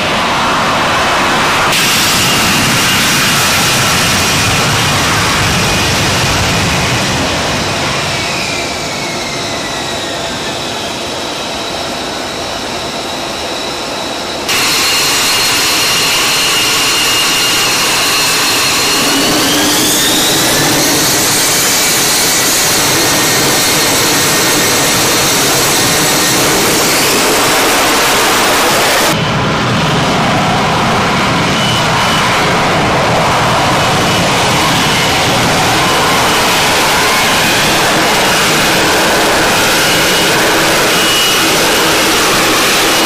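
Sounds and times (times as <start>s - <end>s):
jet engine whine: 0.0s - 43.0s.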